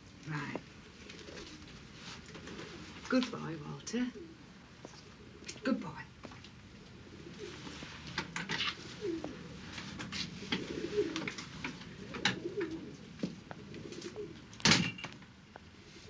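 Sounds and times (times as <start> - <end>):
pigeons cooing: 0.8 - 5.7, 6.5 - 14.6, 15.7 - 16.0.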